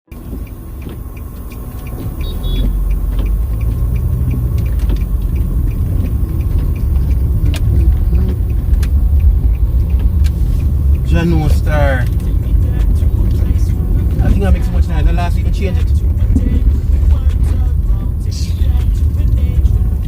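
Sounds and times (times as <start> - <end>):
car engine rumbling: 0.1 - 20.0
light regular ticking: 0.1 - 20.0.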